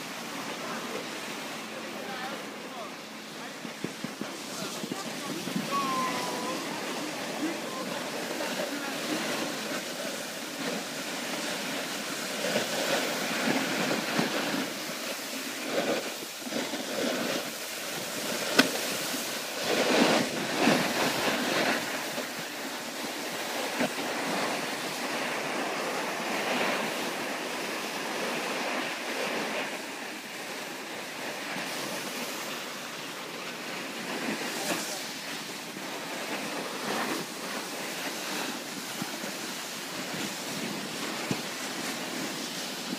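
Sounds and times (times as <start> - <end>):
snowboard scraping over snow: 0.0 - 42.9
wind on microphone: 0.0 - 42.9.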